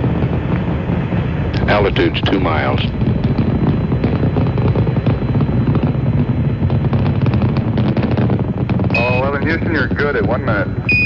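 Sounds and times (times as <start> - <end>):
rocket engines rumbling and crackling: 0.0 - 11.0.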